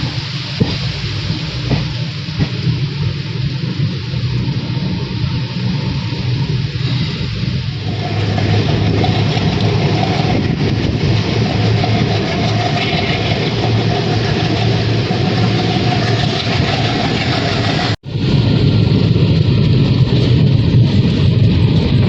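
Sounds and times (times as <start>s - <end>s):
low hum: 0.0s - 22.0s
passenger train running noise: 0.0s - 22.0s.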